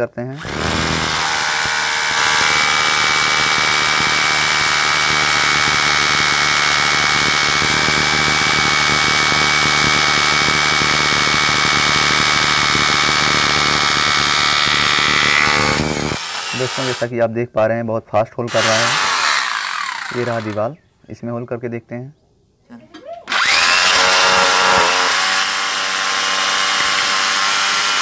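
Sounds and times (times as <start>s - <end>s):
hammer drill boring into stone: 0.4s - 17.1s, 18.5s - 20.7s, 23.3s - 28.0s.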